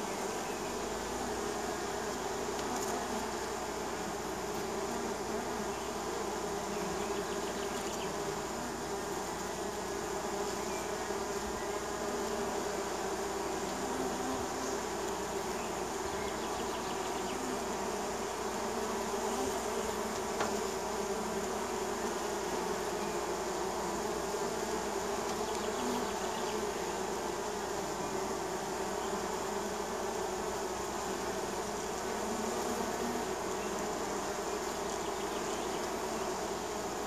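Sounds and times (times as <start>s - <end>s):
honey bees buzzing: 0.0s - 37.0s.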